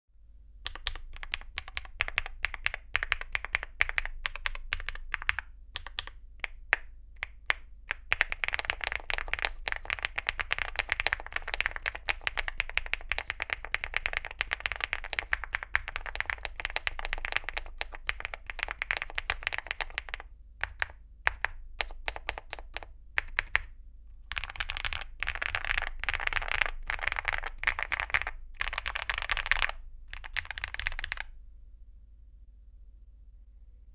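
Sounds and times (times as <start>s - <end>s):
mechanical keyboard typing: 0.7s - 23.7s, 24.3s - 31.3s.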